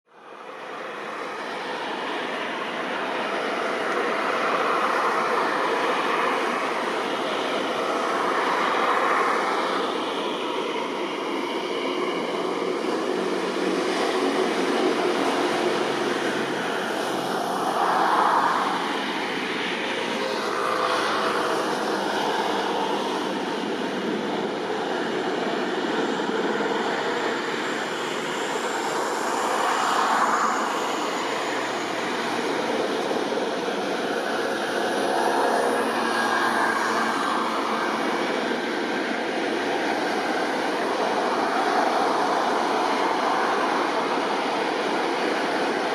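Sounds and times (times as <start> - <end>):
helicopter turbine and rotor: 0.3 - 45.9.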